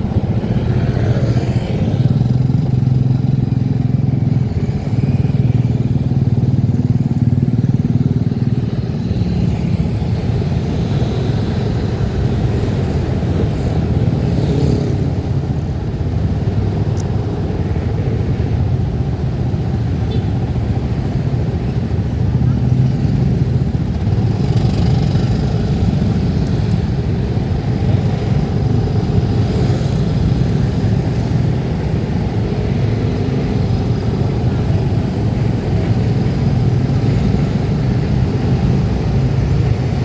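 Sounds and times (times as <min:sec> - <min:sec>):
road and wind noise: 0:00.0 - 0:40.0
vehicle engine humming: 0:00.0 - 0:40.0.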